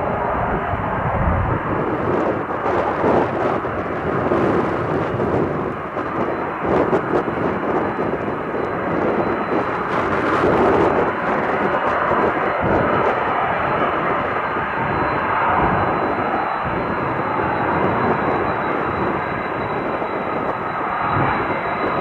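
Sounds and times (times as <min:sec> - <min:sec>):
jet engines at low power: 0:00.0 - 0:22.0
wind buffeting microphone: 0:00.0 - 0:22.0.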